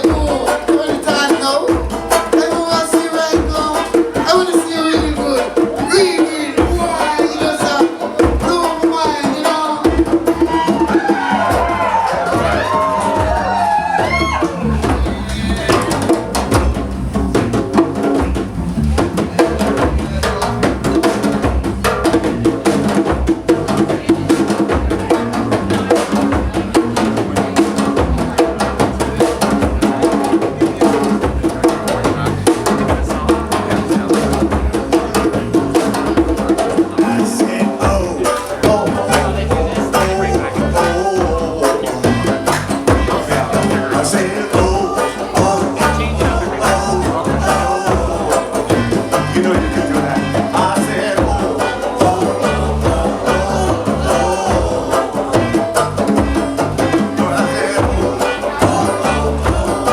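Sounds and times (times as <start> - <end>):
person singing: 0.0 - 16.8, 18.8 - 59.9
drums and percussion beat: 0.0 - 59.9
live band playing: 0.0 - 59.9.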